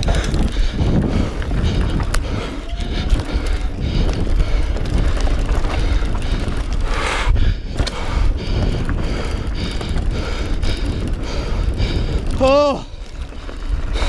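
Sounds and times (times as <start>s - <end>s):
bike tyre and drivetrain rattle: 0.0s - 14.0s
wind on microphone: 0.0s - 14.0s.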